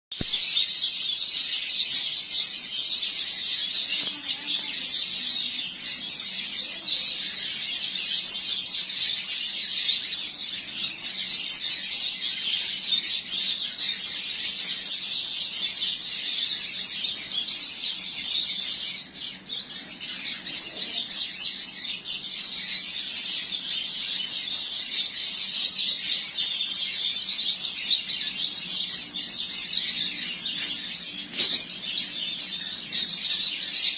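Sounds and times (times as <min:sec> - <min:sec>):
bird twittering song: 0:00.1 - 0:33.9.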